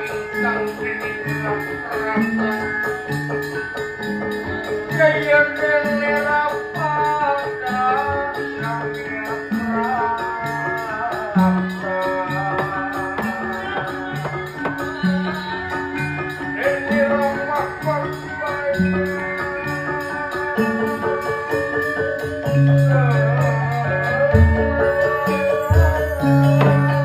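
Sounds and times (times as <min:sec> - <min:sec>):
gamelan music: 0:00.0 - 0:27.0.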